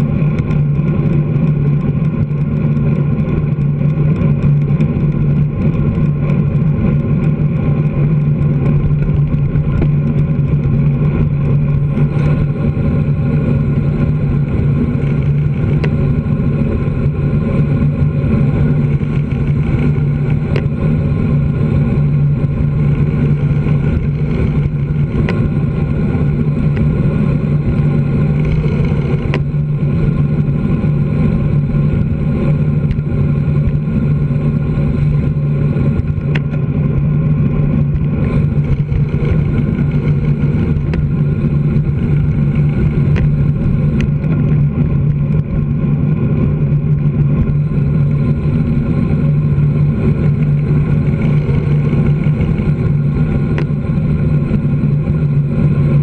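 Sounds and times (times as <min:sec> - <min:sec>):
wind and road rumble: 0:00.0 - 0:56.0.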